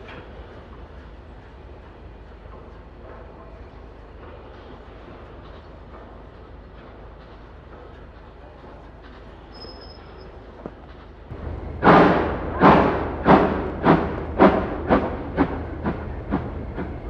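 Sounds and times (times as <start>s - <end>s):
steam locomotive exhaust chuffs: 0.0s - 17.0s.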